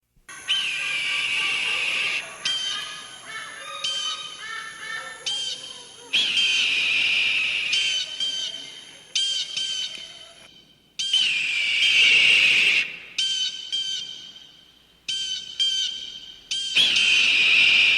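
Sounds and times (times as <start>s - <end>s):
long high bird calls: 0.3s - 17.9s.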